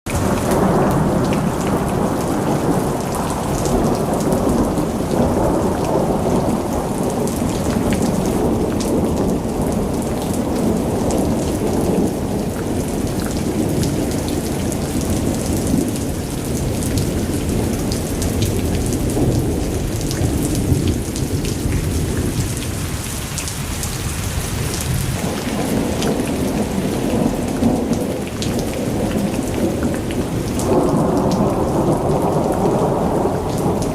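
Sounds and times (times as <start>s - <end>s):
hail and heavy rain pelting: 0.1s - 33.9s.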